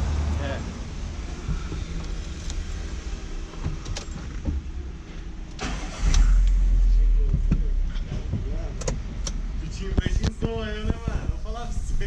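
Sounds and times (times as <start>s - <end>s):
car engine rumbling: 0.0s - 12.0s
loud deep rumble: 0.0s - 12.0s.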